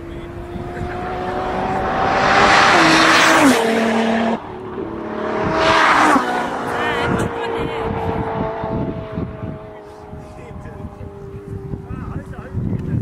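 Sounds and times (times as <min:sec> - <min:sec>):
drag racing car accelerating: 0:00.0 - 0:13.0.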